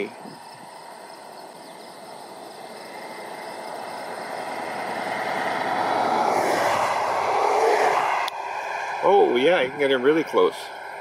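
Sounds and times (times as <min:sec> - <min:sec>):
vehicle approaching: 0:00.0 - 0:11.0.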